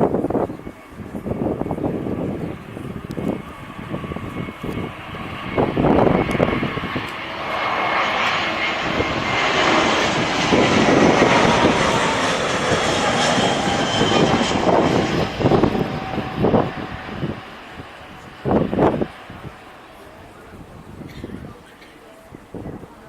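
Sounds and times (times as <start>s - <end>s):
jet airliner engine roar: 0.0s - 23.0s
wind buffeting microphone: 0.0s - 23.0s.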